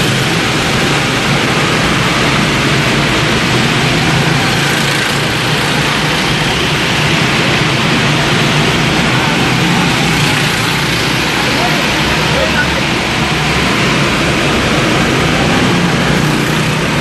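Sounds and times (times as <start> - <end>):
go-kart engines droning: 0.0 - 17.0.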